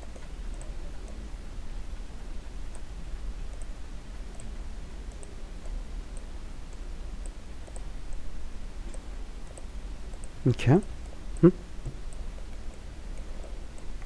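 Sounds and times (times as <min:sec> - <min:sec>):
computer mouse clicks: 0:00.0 - 0:01.2, 0:02.7 - 0:08.2, 0:08.8 - 0:14.0
steady low hum: 0:00.0 - 0:14.0.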